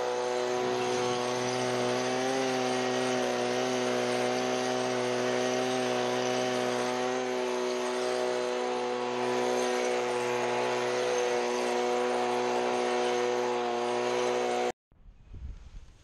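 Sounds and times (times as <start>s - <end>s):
leaf blower engine whine: 0.0s - 15.3s.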